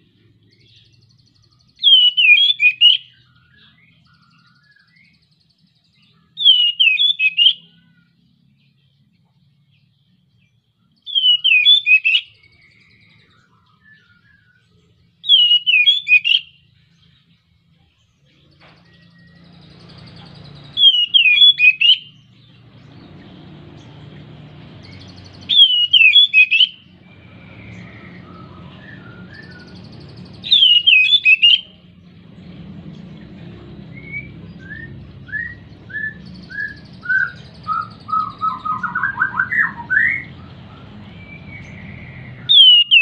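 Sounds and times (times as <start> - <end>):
bird singing whistled notes: 0.4 - 32.3, 32.9 - 43.0.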